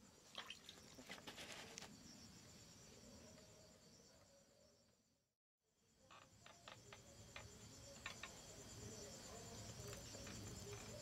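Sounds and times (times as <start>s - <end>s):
insect chirring: 0.0s - 5.2s, 5.8s - 11.0s.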